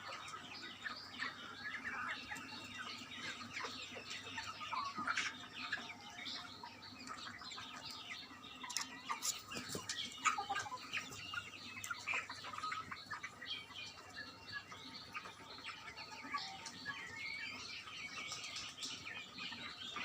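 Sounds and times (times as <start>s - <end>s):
chickens chirping and calling: 0.0s - 20.0s.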